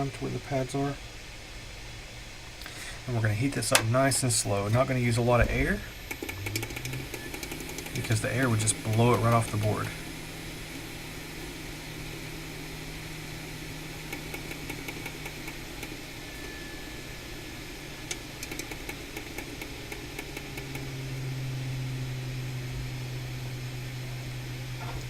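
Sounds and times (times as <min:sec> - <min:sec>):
hot air blower humming: 0:00.0 - 0:25.0.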